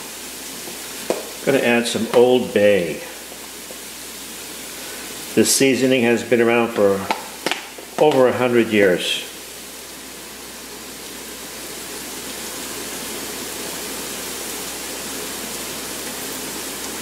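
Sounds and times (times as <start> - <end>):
onion sizzling in oil: 0.0 - 17.0.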